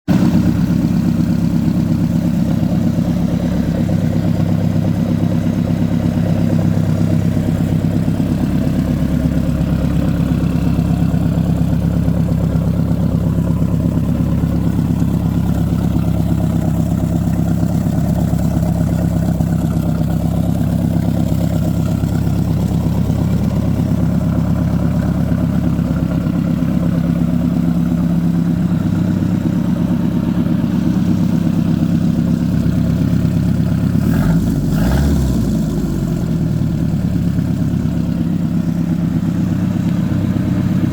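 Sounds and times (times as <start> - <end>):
boat engine running: 0.1 - 40.9.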